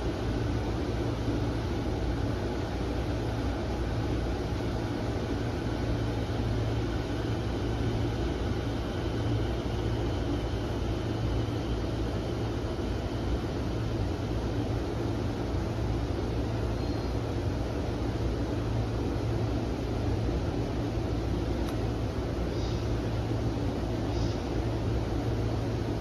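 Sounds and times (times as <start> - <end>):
train cab equipment humming: 0.0 - 26.0.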